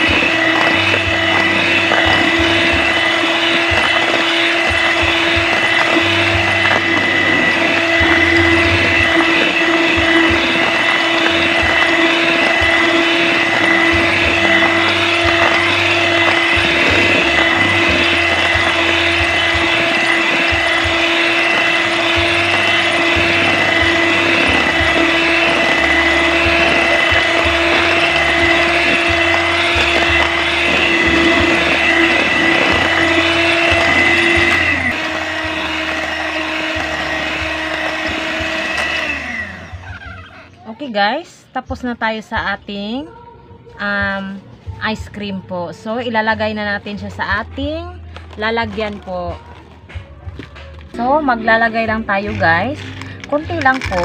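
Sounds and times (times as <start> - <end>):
electric hand mixer whirring: 0.0 - 40.6, 48.1 - 54.0.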